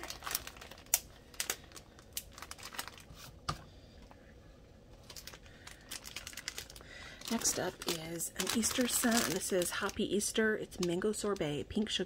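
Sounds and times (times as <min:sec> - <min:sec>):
plastic wrapper crinkling: 0:00.0 - 0:04.1, 0:04.9 - 0:12.0.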